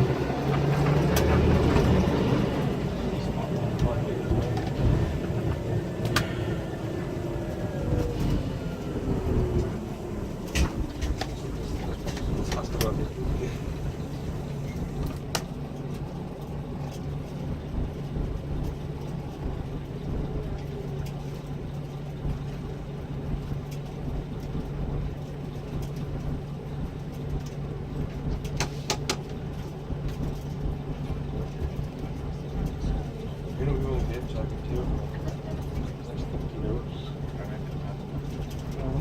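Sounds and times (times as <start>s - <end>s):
diesel coach engine running: 0.0s - 39.0s.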